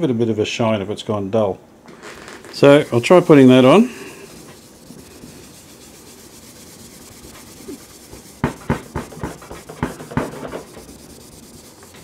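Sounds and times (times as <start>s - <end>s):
hand rubbing wax onto case: 2.0s - 12.0s.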